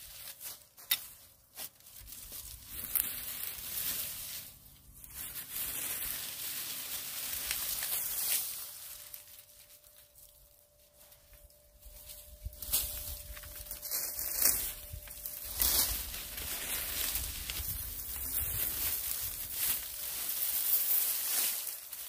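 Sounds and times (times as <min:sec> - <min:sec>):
dry grass rustling and crackling: 0:00.0 - 0:22.0.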